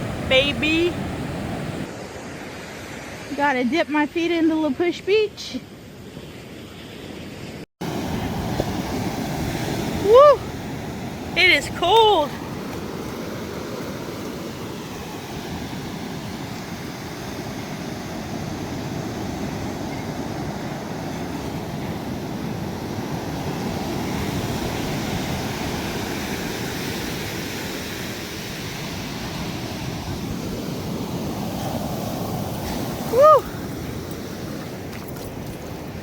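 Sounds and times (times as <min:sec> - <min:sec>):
ocean surf washing onto beach: 0:00.0 - 0:03.4, 0:07.8 - 0:36.0.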